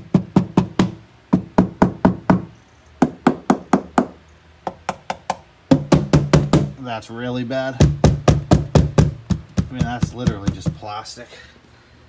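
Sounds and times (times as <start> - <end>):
knuckles rapping on plastic panel: 0.0 - 6.8, 7.8 - 10.9.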